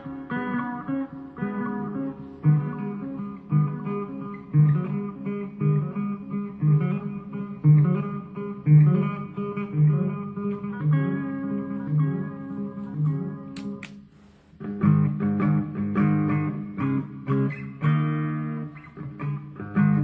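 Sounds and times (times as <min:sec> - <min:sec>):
electric guitar riff: 0:00.0 - 0:20.0.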